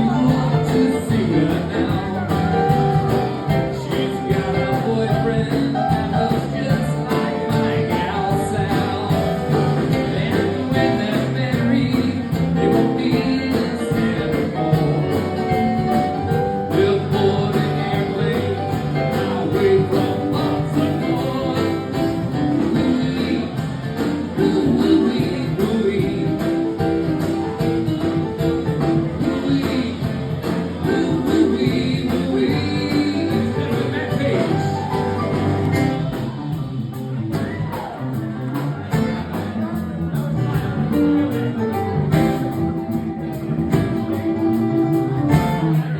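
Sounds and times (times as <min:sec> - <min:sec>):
person singing: 0:00.0 - 0:38.2.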